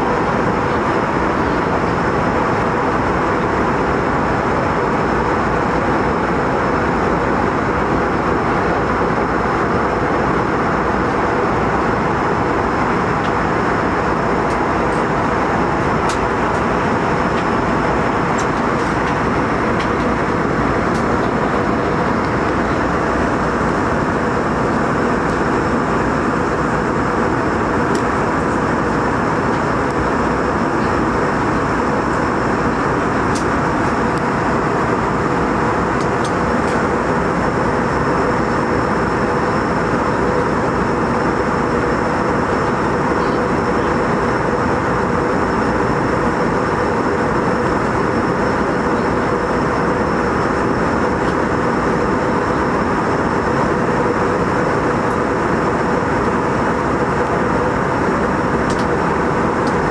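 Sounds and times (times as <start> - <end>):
airliner engine and airflow noise: 0.0 - 59.9.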